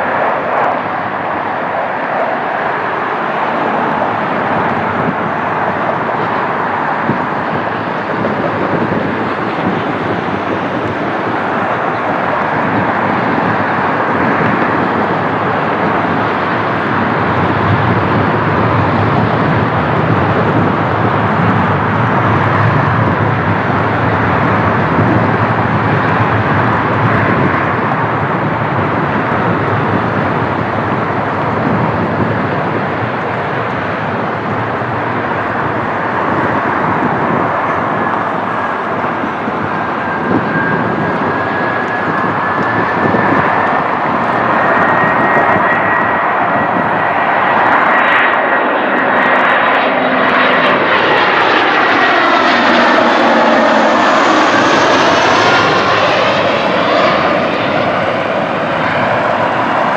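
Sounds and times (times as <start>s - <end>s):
jet engines running: 0.0s - 59.9s
thin whine: 1.7s - 59.9s.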